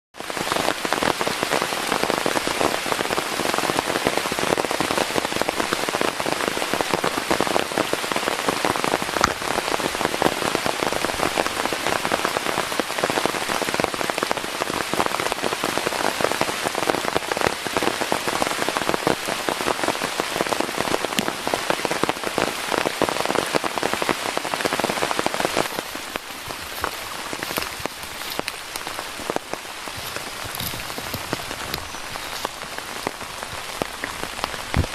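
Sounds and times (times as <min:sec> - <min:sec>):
steady rain patter: 0:00.1 - 0:34.9.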